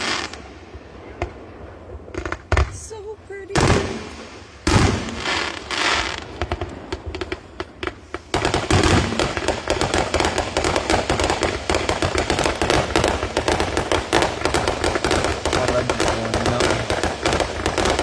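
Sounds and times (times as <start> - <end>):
firework bangs: 0.0 - 18.0
firework crackling pops: 0.0 - 18.0.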